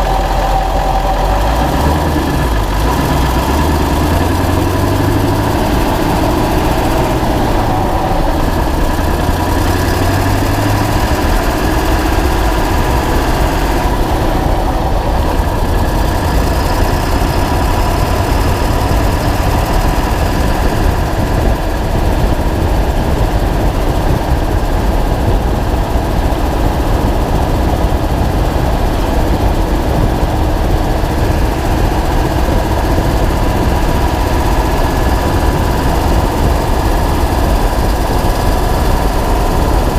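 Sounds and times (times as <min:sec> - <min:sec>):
diesel engine running: 0:00.0 - 0:39.9
exhaust leak ticking: 0:00.0 - 0:39.9.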